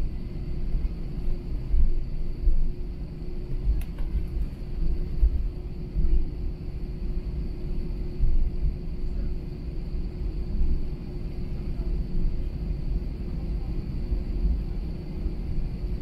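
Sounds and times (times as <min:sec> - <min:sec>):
jet engine rumble: 0:00.0 - 0:16.0
steady cabin hum: 0:00.0 - 0:16.0.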